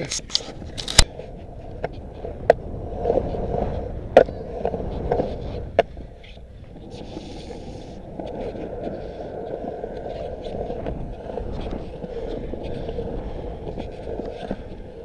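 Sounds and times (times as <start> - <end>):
skateboard wheels rumbling on concrete: 0.0 - 15.0
skateboard clacks: 0.4 - 15.0.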